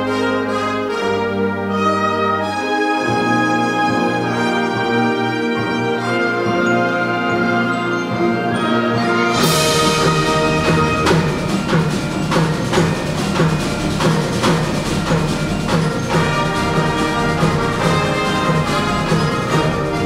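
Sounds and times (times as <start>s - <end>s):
concert band fanfare: 0.0s - 20.0s
percussion strokes: 3.0s - 20.0s
tubular chimes: 3.8s - 20.0s.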